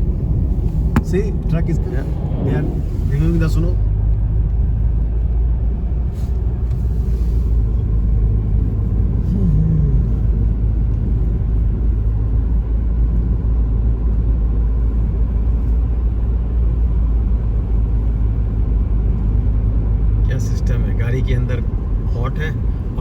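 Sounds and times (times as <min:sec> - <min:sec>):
car driving on snowy road: 0:00.0 - 0:23.0.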